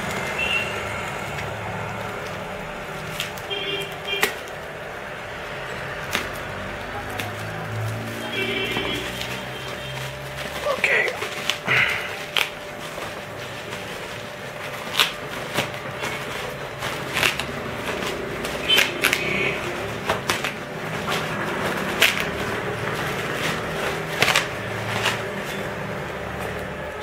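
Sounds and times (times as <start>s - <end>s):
bubble wrap crinkling and crackling: 0.0s - 27.0s.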